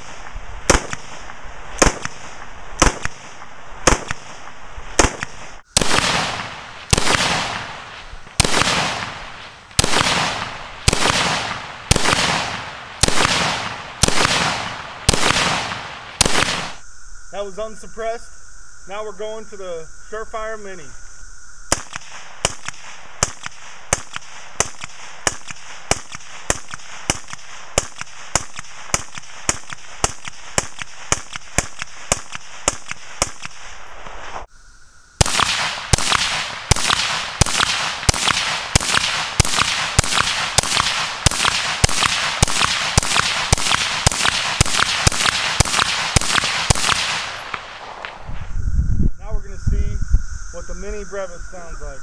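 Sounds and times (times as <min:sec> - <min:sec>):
louder faster suppressed rifle shots: 0:00.0 - 0:16.8, 0:21.7 - 0:33.9, 0:35.2 - 0:48.2
suppressed rifle shots: 0:00.0 - 0:16.8, 0:21.7 - 0:33.9, 0:35.2 - 0:48.3.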